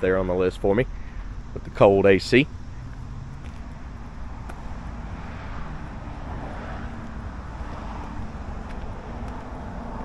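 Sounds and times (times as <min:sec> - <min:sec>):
road vehicle noise: 0:00.0 - 0:10.0.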